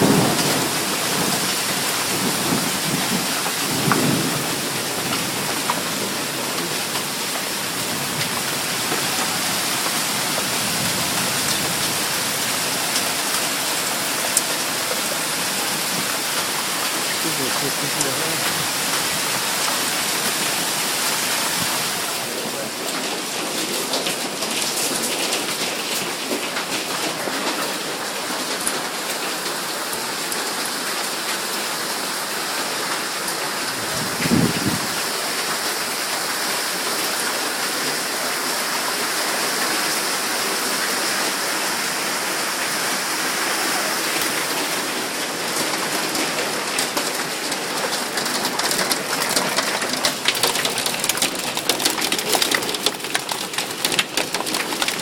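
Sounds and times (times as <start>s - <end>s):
hail and heavy rain: 0.0s - 55.0s.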